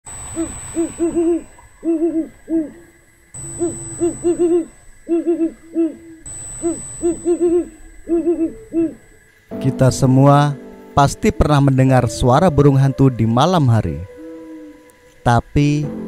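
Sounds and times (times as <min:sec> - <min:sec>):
owl hooting: 0:00.1 - 0:10.2, 0:12.4 - 0:15.8
faint high whine: 0:00.1 - 0:16.0.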